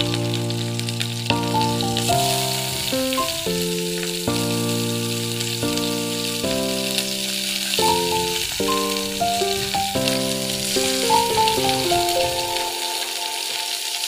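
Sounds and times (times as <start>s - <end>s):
background music: 0.0s - 14.0s
onion sizzling in hot oil: 0.0s - 14.0s.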